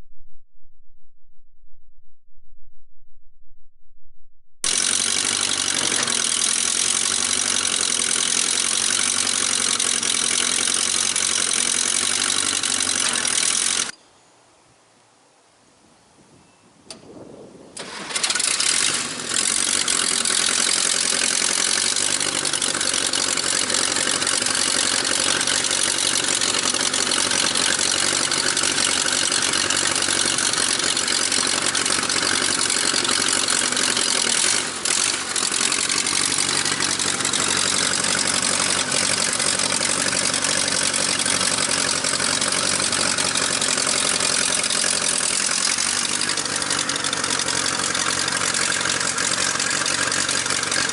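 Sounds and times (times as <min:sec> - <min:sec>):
tractor engine starting and running: 0:04.6 - 0:14.0, 0:16.9 - 0:50.9.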